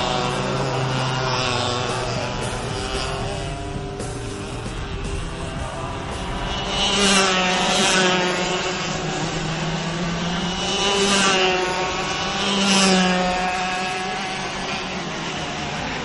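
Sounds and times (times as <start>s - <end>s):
racing kart engines passing: 0.0s - 16.0s.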